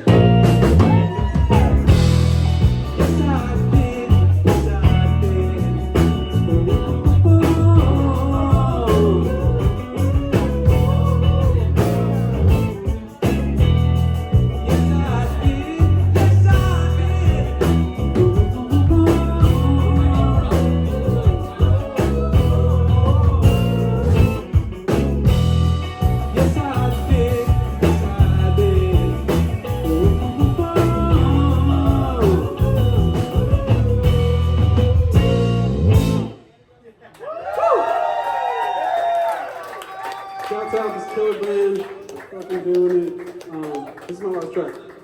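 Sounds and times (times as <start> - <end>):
live rock band playing: 0.0 - 36.4.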